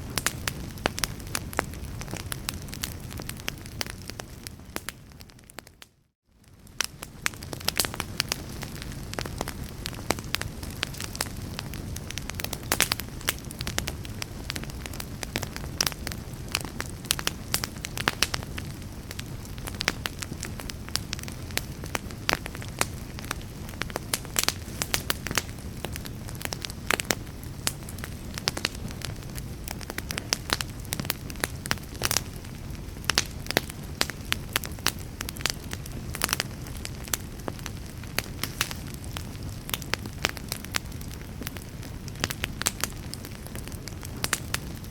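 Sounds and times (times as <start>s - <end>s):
fire crackling and popping: 0.0s - 44.9s
low rumble of fire: 0.0s - 44.9s.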